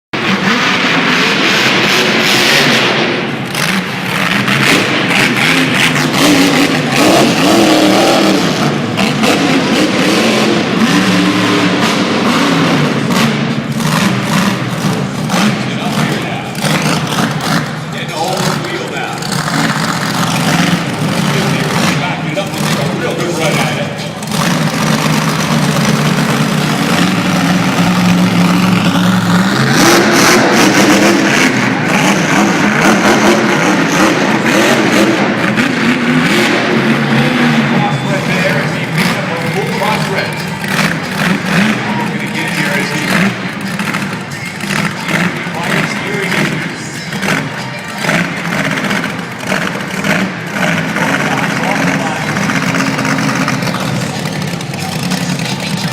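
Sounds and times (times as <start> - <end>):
monster truck engine revving: 0.1 - 55.9.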